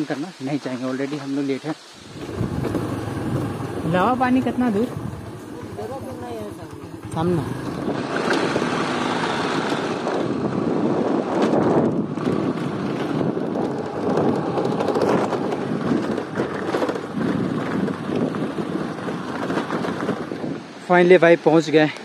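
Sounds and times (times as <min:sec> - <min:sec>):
tyres on road: 0:01.8 - 0:22.0
wind buffeting microphone: 0:02.0 - 0:21.5
scooter running: 0:02.2 - 0:20.6.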